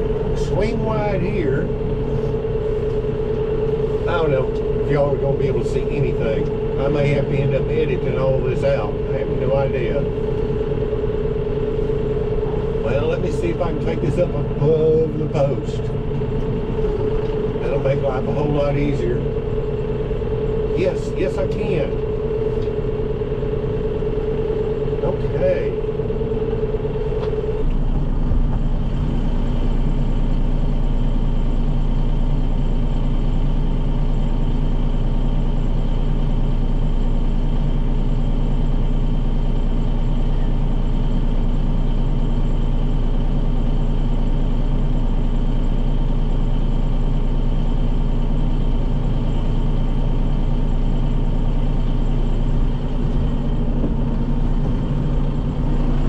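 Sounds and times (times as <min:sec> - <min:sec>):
tractor diesel engine droning: 0:00.0 - 0:56.0.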